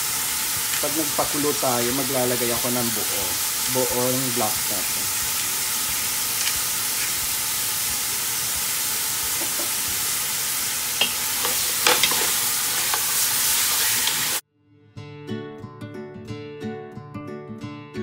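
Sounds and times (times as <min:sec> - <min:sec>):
meat sizzling in oil: 0:00.0 - 0:14.4.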